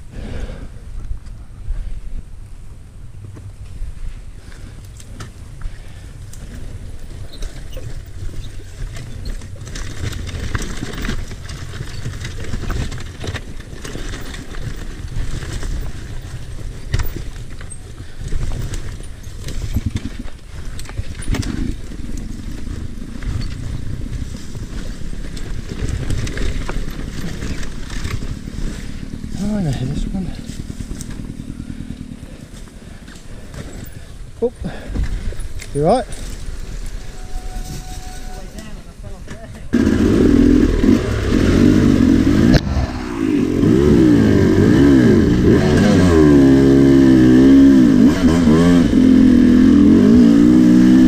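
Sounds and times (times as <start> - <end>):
dirt bike engine running: 2.6 - 51.0.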